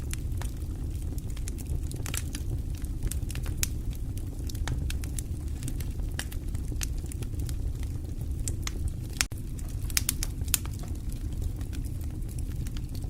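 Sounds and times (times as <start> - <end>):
fire crackling: 0.0 - 13.0.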